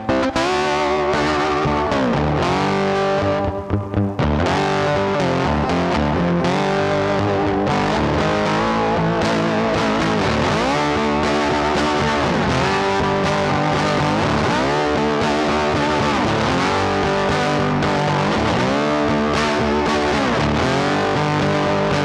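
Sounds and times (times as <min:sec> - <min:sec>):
distorted electric guitar music: 0:00.0 - 0:22.0.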